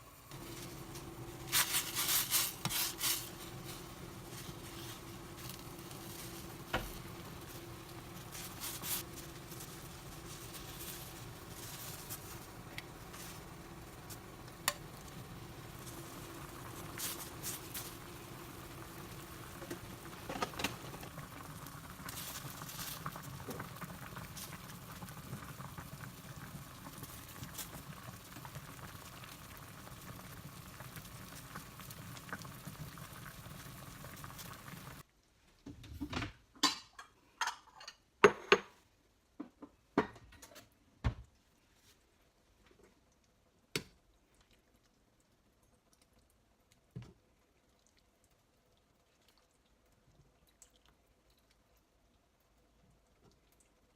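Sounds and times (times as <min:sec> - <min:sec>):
food bubbling and hissing: 0:00.0 - 0:35.1, 0:41.3 - 0:53.9.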